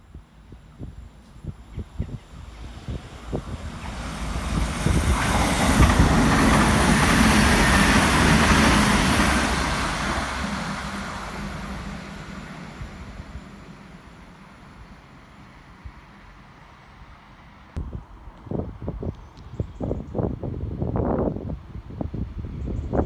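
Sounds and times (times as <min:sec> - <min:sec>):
train passing: 0:00.1 - 0:18.9.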